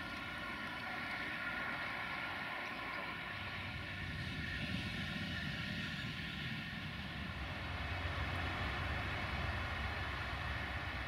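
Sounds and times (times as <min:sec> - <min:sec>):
distant diesel train engine drone: 0:00.0 - 0:11.0.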